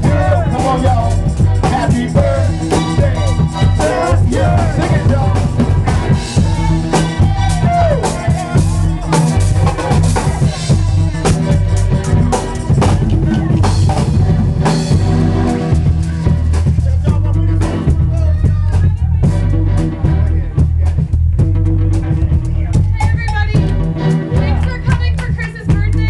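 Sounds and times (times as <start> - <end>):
drum kit: 0.0 - 26.0
reggae band playing: 0.0 - 26.0.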